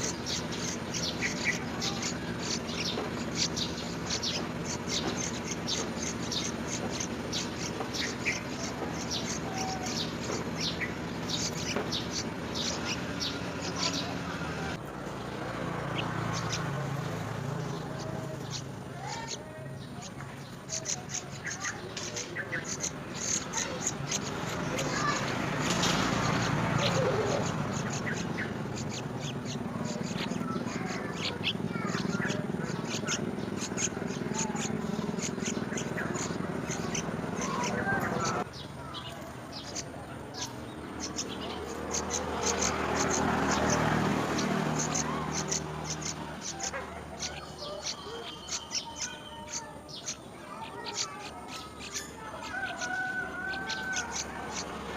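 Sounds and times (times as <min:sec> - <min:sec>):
bird chirping: 0:00.0 - 0:54.9.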